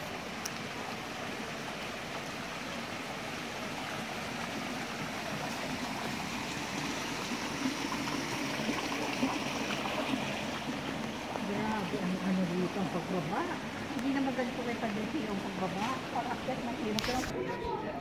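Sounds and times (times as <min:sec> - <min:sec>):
water rushing in a stream: 0:00.0 - 0:18.0.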